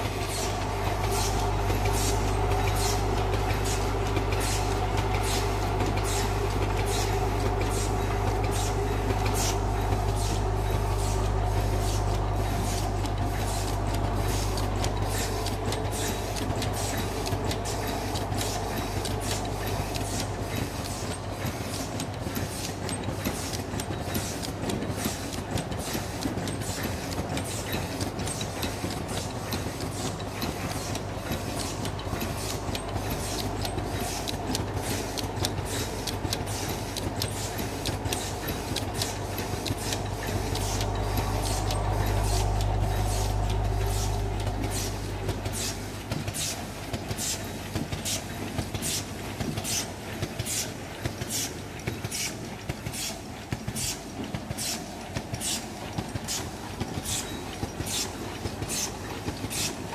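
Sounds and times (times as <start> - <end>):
machine motor hum: 0.0 - 49.7
regular mechanical clicks: 0.0 - 59.9.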